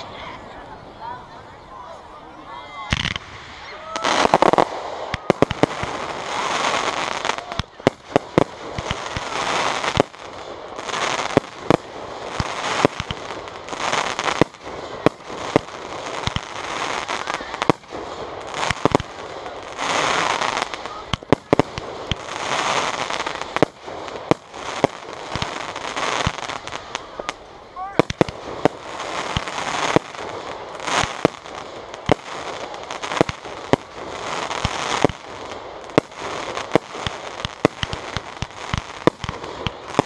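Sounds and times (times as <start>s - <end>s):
fireworks crackling: 0.0s - 40.0s
fireworks bangs: 2.5s - 40.0s.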